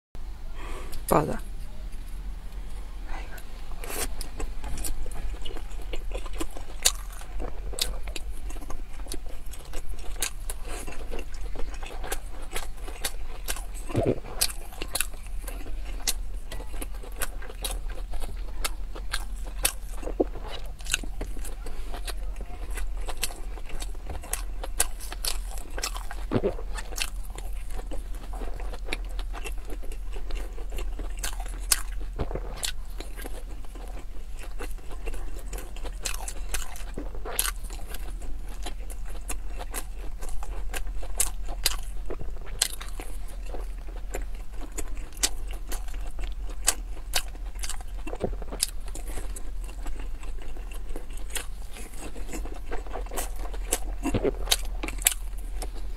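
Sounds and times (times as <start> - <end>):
chewing and mouth smacks: 3.4 - 55.9.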